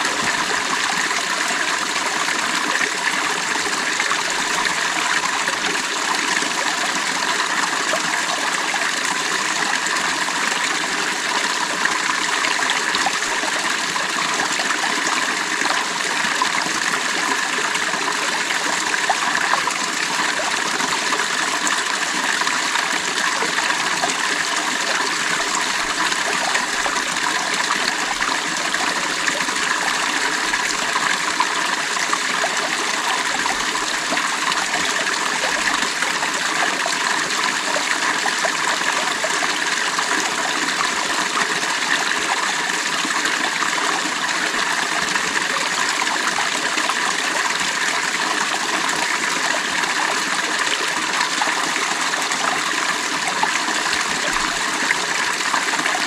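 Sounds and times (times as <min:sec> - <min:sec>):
creek water babbling over rocks: 0:00.0 - 0:56.0.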